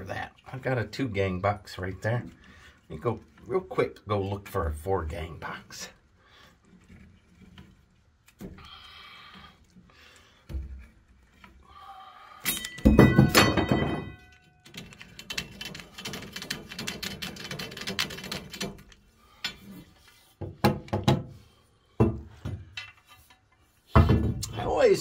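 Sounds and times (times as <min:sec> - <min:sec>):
metal-on-metal scraping: 0:00.0 - 0:20.5, 0:22.3 - 0:24.7.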